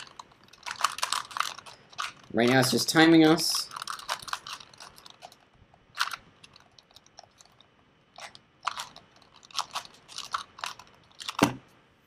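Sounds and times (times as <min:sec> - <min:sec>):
plastic puzzle cube clicking: 0:00.0 - 0:05.4, 0:06.0 - 0:11.6.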